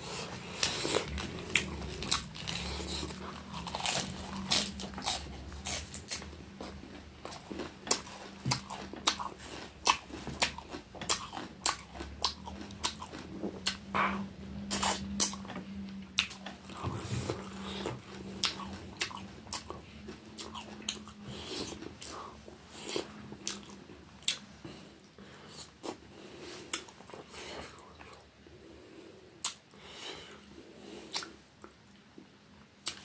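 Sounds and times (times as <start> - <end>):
person chewing: 0.0 - 28.2, 29.4 - 32.0.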